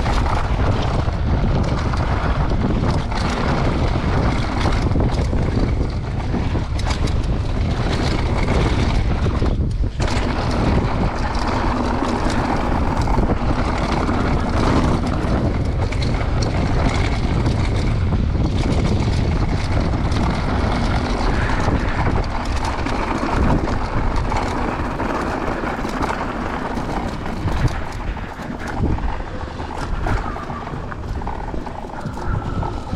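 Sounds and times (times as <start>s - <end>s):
steady rumble: 0.0s - 32.9s
wind rushing over microphone: 0.0s - 32.9s.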